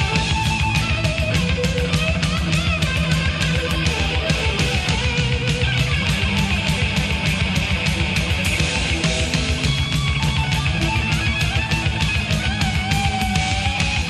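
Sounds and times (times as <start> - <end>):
distorted electric guitars: 0.0 - 14.0
fast drumming: 0.0 - 14.0
lead guitar line: 0.0 - 14.0.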